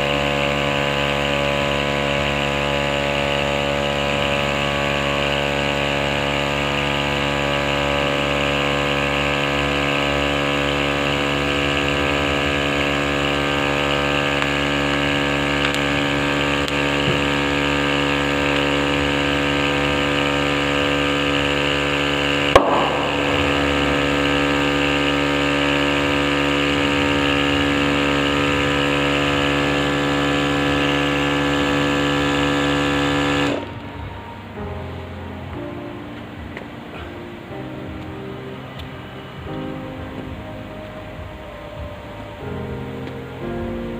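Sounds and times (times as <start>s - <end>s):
small motor running steadily: 0.0s - 37.6s.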